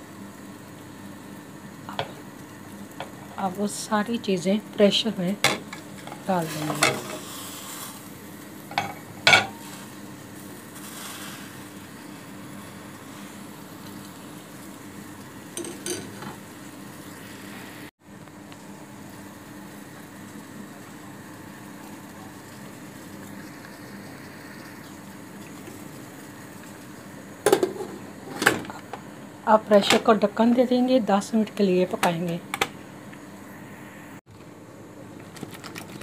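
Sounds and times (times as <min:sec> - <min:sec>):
steady hiss and low hum: 0:00.0 - 0:36.0.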